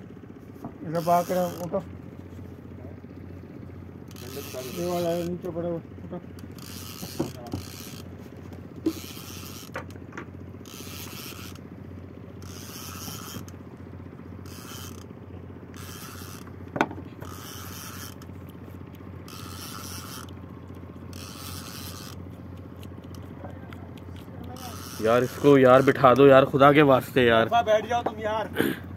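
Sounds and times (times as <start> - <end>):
steady low hum: 0.0 - 28.9
fishing reel ratcheting whir: 0.8 - 28.7.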